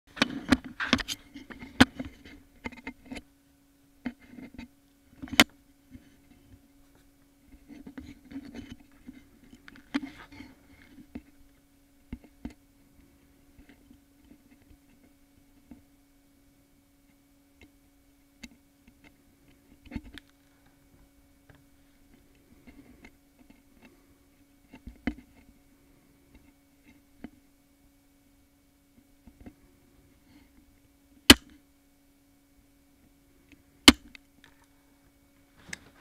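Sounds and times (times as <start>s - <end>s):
steady hum: 0.1s - 36.0s.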